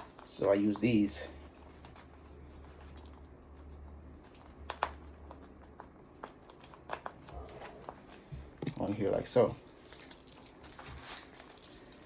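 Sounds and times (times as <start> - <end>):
low steady hum: 0.0 - 12.0
small clicks and rustling: 0.0 - 12.0.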